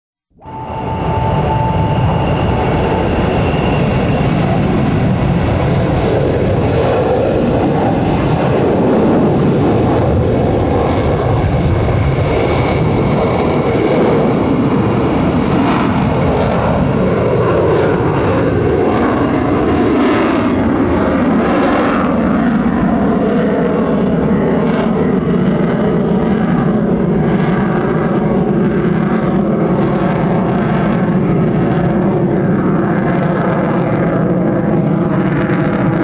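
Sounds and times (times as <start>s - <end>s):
jet engines roaring: 0.3s - 36.0s.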